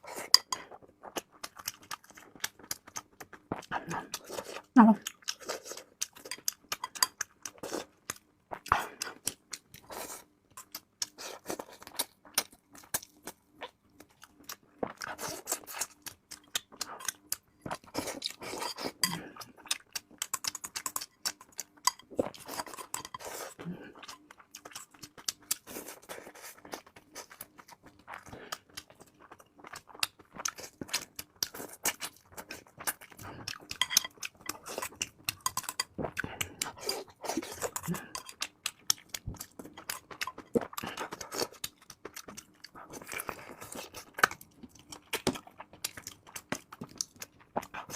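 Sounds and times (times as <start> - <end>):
person chewing: 0.0 - 47.9.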